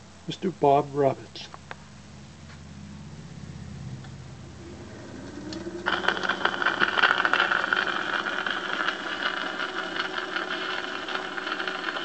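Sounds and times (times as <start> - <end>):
record surface hiss with crackles: 0.0 - 12.0
steady hum: 0.0 - 12.0.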